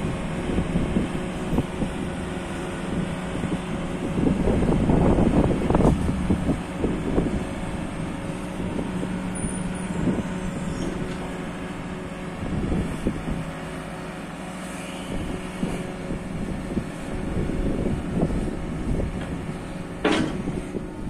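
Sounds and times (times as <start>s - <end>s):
wind buffeting microphone: 0.0s - 13.6s, 15.1s - 21.0s
diesel engine droning: 0.0s - 21.0s.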